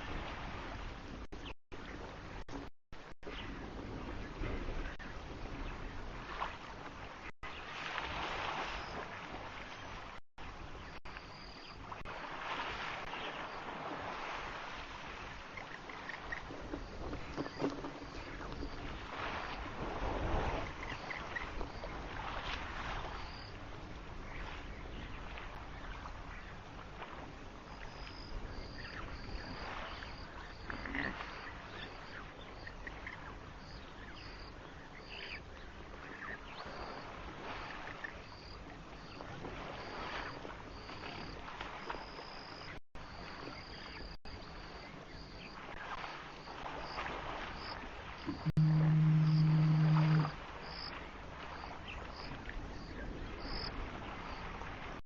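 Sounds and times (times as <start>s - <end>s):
water splashing and sloshing: 0.0s - 33.1s, 35.9s - 55.0s.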